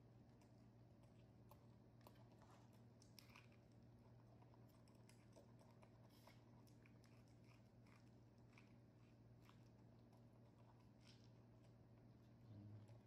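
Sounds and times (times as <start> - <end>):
monkey chewing corn kernels: 0.2 - 13.0.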